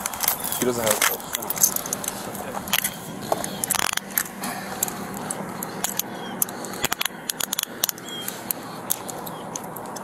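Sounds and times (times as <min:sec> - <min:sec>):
small metal items jingling: 0:00.0 - 0:10.0
steady outdoor hiss: 0:00.0 - 0:10.0.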